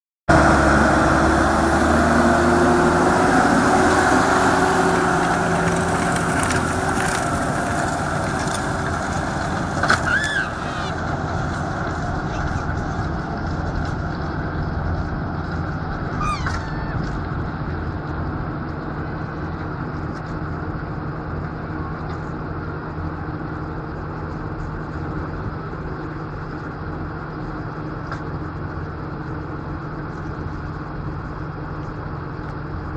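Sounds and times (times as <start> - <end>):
tractor diesel engine running: 0.3 - 32.9.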